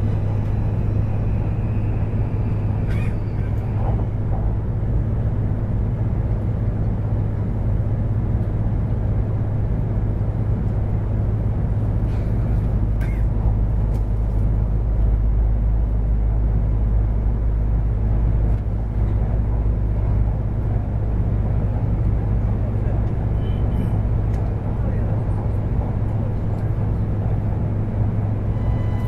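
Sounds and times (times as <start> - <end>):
train rumbling at speed: 0.0 - 29.0.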